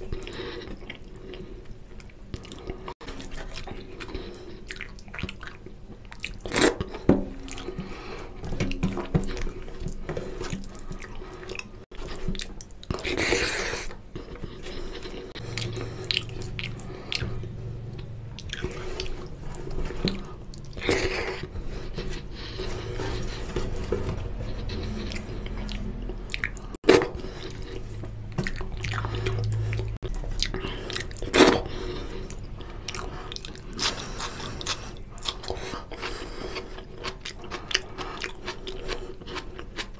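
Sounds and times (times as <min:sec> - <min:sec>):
mouth chewing: 0:00.0 - 0:08.1, 0:09.0 - 0:39.9.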